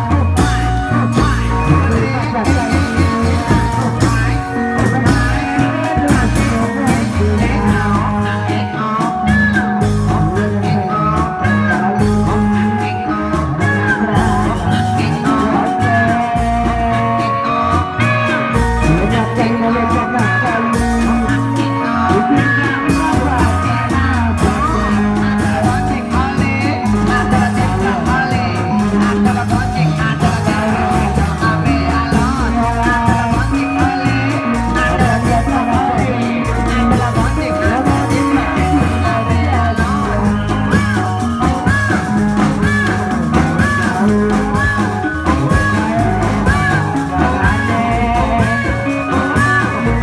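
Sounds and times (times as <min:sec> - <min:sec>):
steady drumming: 0:00.0 - 0:17.2, 0:18.1 - 0:50.0
wavering melody: 0:00.0 - 0:50.0.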